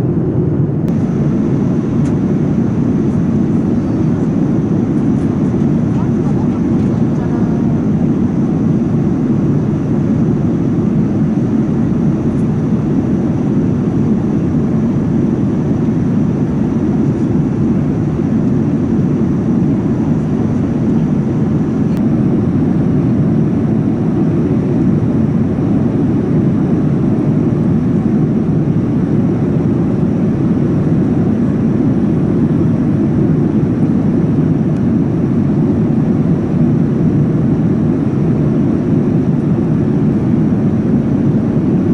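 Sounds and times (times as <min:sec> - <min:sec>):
airliner cabin airflow rush: 0:00.0 - 0:41.9
faint high whine: 0:00.0 - 0:41.9
jet engines rumbling: 0:00.0 - 0:41.9.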